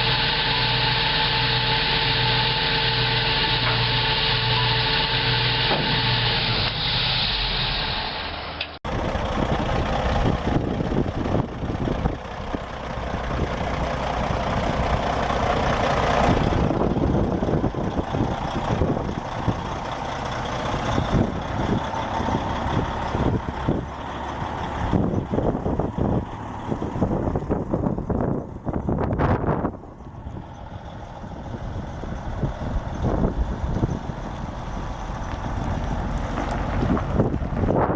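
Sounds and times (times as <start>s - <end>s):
heavy truck engine running: 0.0s - 37.9s.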